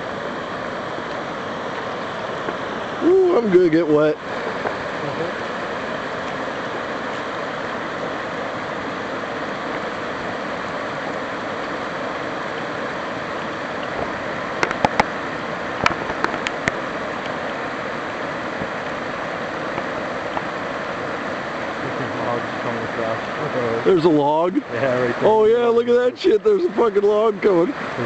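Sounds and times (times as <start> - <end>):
floodwater rushing across a road: 0.0 - 28.0.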